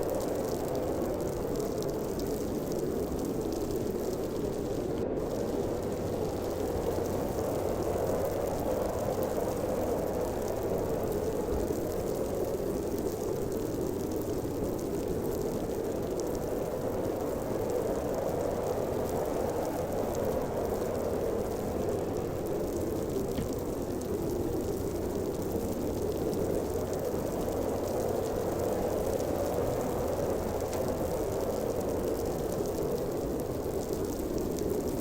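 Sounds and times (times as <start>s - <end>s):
snowstorm wind howling: 0.0s - 35.0s.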